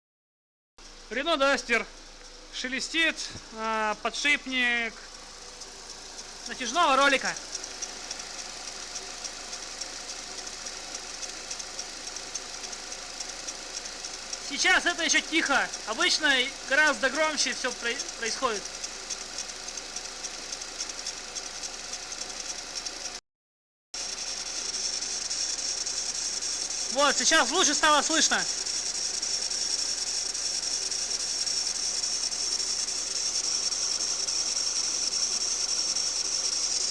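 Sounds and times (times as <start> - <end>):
car engine idling: 0.8 - 23.2, 24.0 - 36.9
drive belt rustling and ticking: 0.8 - 23.2, 24.0 - 36.9.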